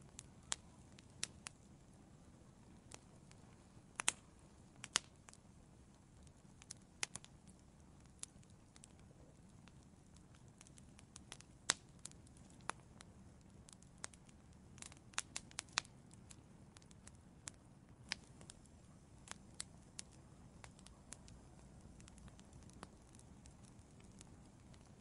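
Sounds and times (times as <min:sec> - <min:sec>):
wood fire popping and snapping: 0:00.0 - 0:25.0.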